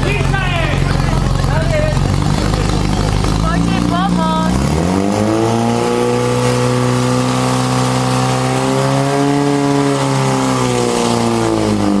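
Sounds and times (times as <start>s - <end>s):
pump engine running at high revs: 0.0s - 12.0s.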